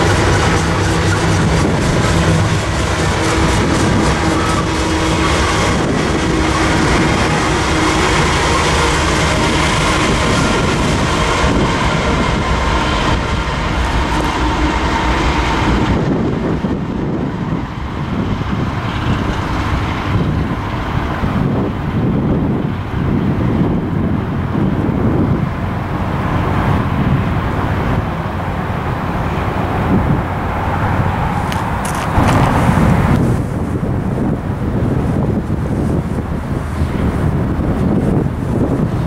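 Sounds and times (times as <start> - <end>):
diesel locomotive passing: 0.0 - 39.0
freight train wheels clicking: 0.0 - 39.0
wind noise on microphone: 0.0 - 39.0.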